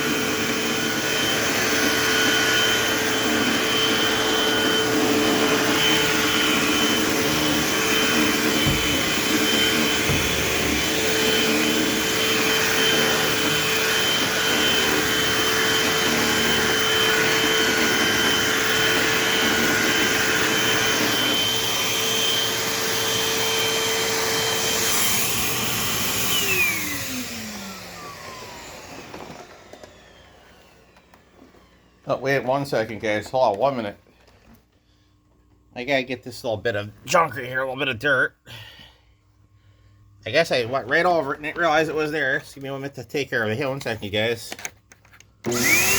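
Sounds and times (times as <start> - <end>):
vacuum cleaner running: 0.0 - 38.6, 39.4 - 45.9.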